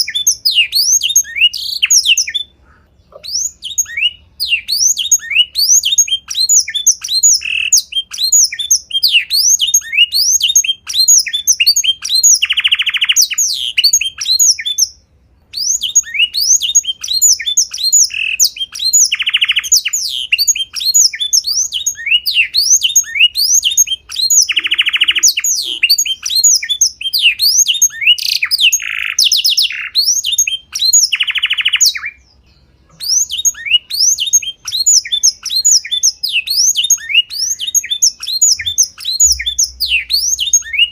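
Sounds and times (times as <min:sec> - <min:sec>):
buzzy bird trill: 0:00.0 - 0:40.9
songbird chirping: 0:00.0 - 0:40.9.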